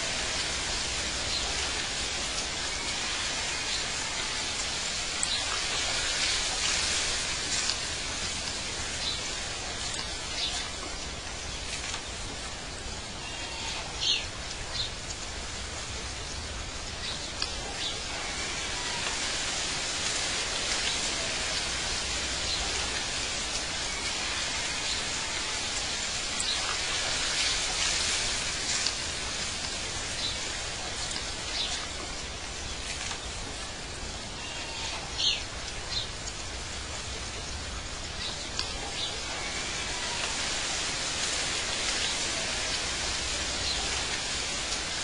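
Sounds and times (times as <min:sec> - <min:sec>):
steady rushing hiss: 0:00.0 - 0:45.0.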